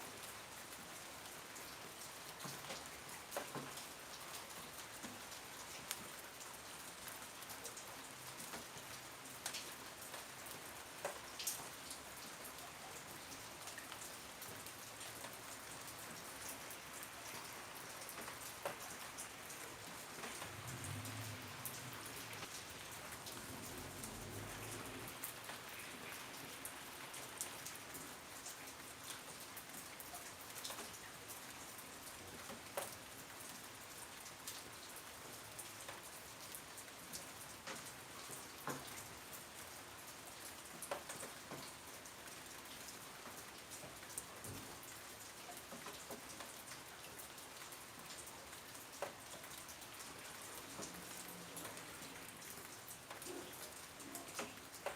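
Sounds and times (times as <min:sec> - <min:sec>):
raindrops ticking on a surface: 0:00.0 - 0:54.9
steady rain: 0:00.0 - 0:54.9.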